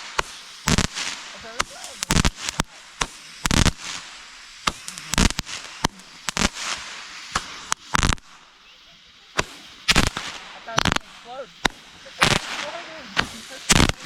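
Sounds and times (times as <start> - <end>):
fireworks bangs and pops: 0.0 - 14.0.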